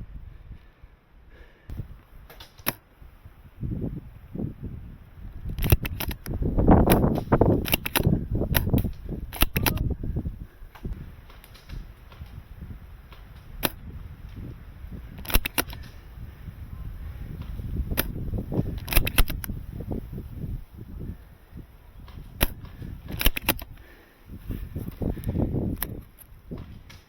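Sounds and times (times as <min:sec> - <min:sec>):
wind buffeting microphone: 0:01.7 - 0:27.0.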